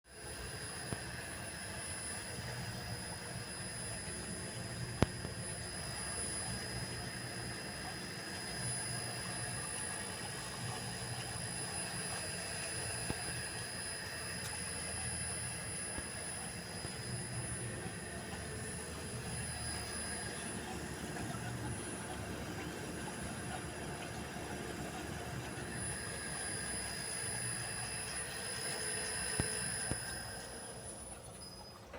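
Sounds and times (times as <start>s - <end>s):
tablet press whine and hum: 0.1s - 31.9s.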